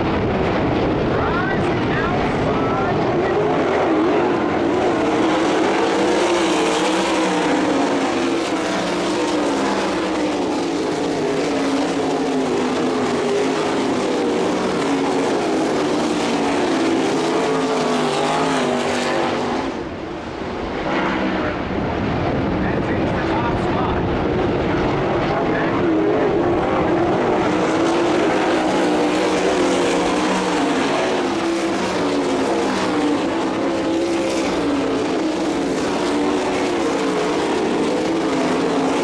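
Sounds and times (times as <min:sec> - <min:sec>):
race car engines at high revs: 0:00.0 - 0:39.0.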